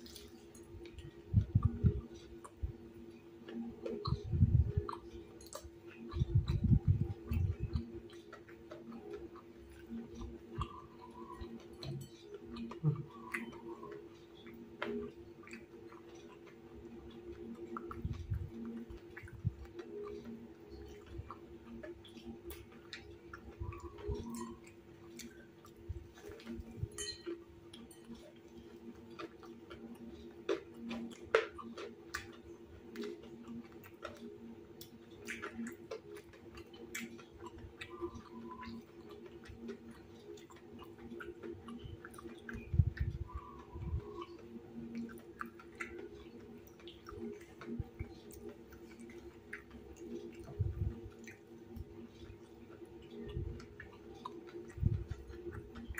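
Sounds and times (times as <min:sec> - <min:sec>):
crunchy chewing: 0:00.0 - 0:55.9
steady low hum: 0:00.0 - 0:55.9.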